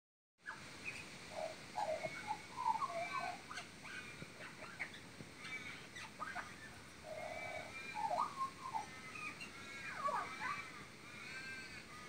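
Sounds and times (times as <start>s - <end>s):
magpie warbling and chirping: 0.5s - 11.8s.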